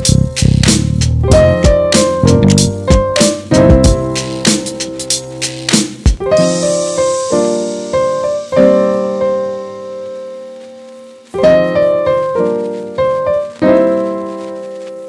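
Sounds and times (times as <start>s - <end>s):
piano chords ringing: 1.2s - 15.0s.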